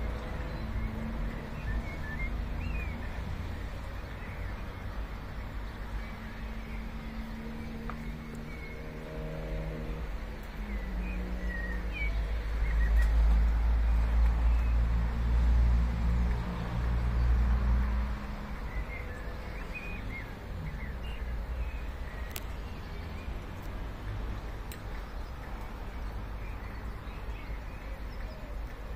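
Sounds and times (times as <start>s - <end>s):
small birds chirping: 0.0s - 15.2s, 17.8s - 28.9s.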